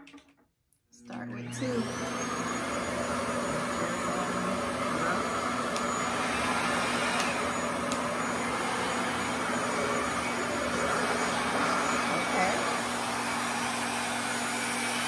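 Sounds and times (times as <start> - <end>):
hair dryer running: 1.1 - 15.0.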